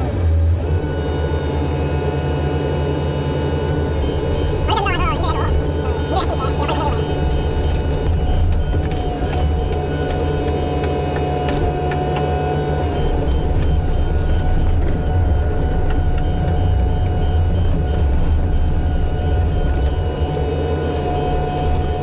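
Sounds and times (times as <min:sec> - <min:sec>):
excavator diesel engine running: 0:00.0 - 0:22.0
hydraulic whine: 0:00.0 - 0:22.0.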